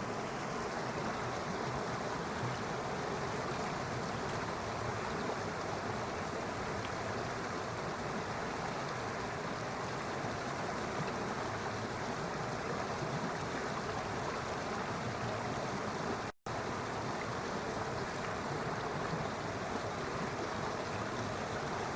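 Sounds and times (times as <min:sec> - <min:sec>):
flowing stream water rushing: 0:00.0 - 0:21.9.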